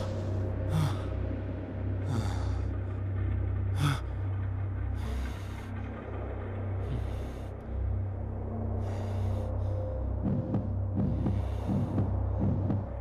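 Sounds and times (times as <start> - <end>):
man breathing heavily: 0.0 - 8.0, 8.7 - 13.0
droning suspense music: 0.0 - 13.0.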